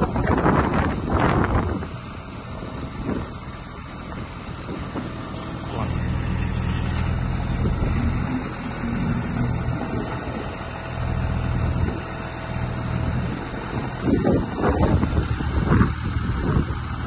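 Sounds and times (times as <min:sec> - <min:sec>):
diesel engine running: 0:00.0 - 0:17.0
uneven engine surges: 0:00.0 - 0:17.0.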